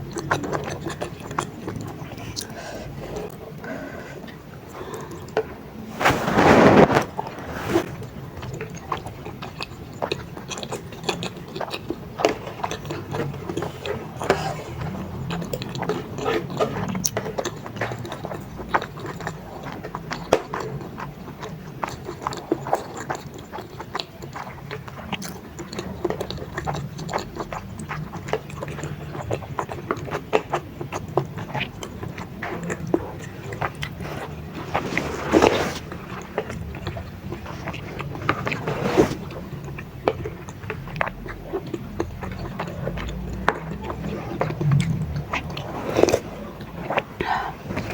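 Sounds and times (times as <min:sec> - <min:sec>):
chewing with wet mouth clicks: 0:00.0 - 0:05.8, 0:07.9 - 0:47.9
loud eating noises: 0:00.0 - 0:47.9.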